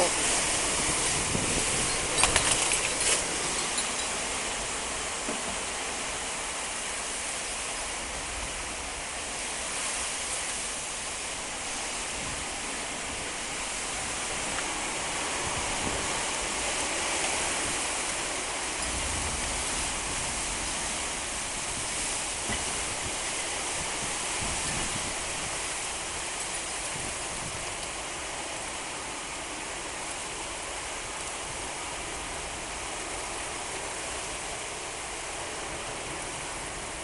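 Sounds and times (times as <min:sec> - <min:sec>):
heavy rain pouring: 0:00.0 - 0:37.0
wind gusts rumbling on microphone: 0:00.0 - 0:37.0.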